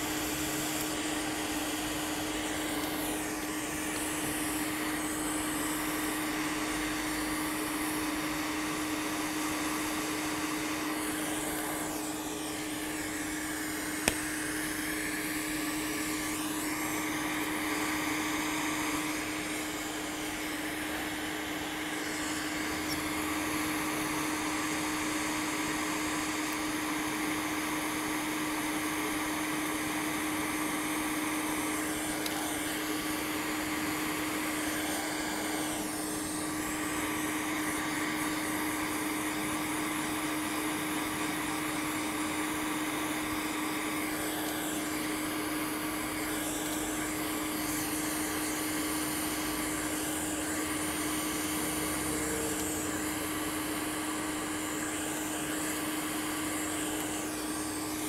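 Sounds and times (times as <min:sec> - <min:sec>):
hot air station blowing: 0:00.0 - 0:58.0.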